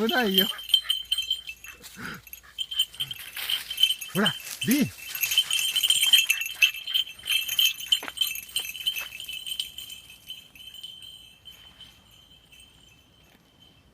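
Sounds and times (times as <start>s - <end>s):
small bell jingling: 0.0s - 13.9s.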